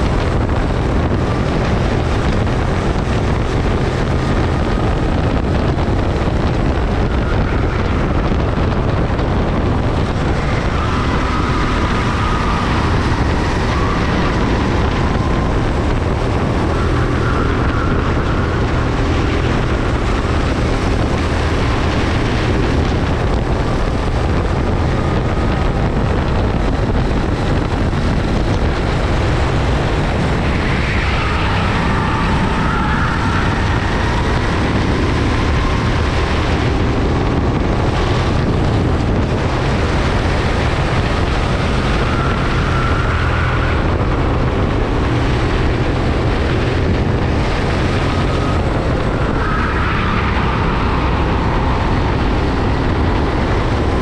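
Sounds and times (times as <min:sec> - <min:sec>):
go-kart engines racing: 0:00.0 - 0:54.0
wind noise on microphone: 0:00.0 - 0:54.0.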